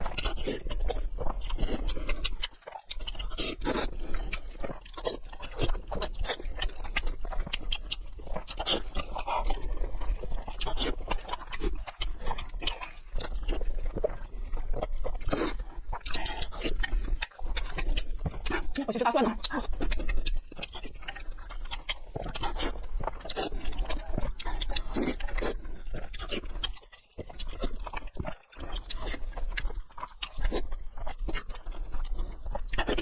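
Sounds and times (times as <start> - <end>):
noodles being slurped: 0.1 - 33.0.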